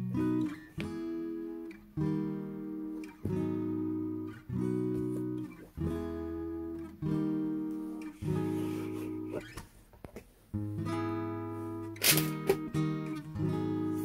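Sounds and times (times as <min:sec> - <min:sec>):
acoustic guitar strumming chords: 0:00.0 - 0:09.8, 0:10.5 - 0:14.0.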